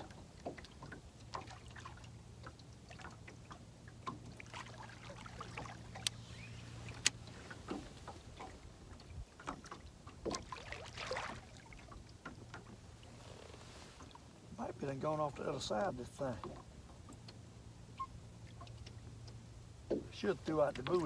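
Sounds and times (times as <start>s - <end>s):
boat motor humming: 0.0s - 21.0s
water ticking against hull: 0.0s - 21.0s.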